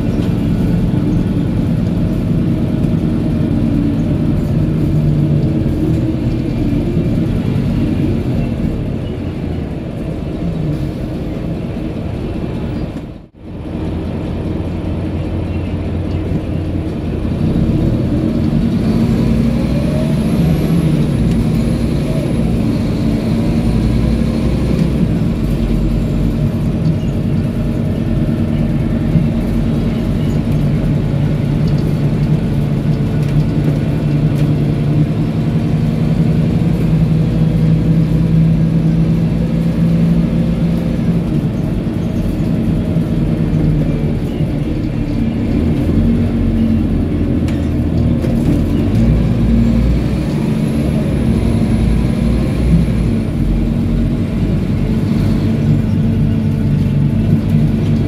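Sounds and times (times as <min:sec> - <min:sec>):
bus diesel engine running: 0:00.0 - 0:58.0
road and body noise: 0:00.0 - 0:58.0.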